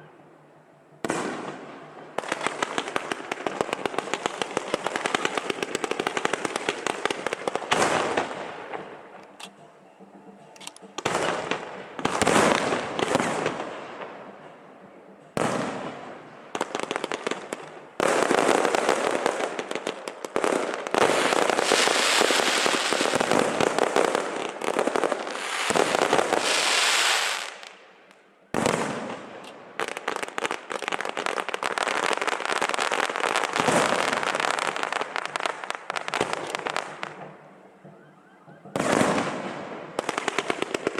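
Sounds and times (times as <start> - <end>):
firecrackers crackling bangs: 1.0 - 9.3, 10.8 - 14.5, 15.3 - 40.9.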